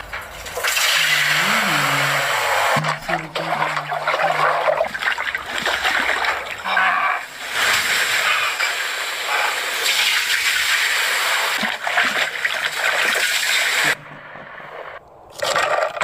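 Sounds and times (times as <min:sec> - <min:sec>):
water rushing and splashing: 0:00.6 - 0:14.0.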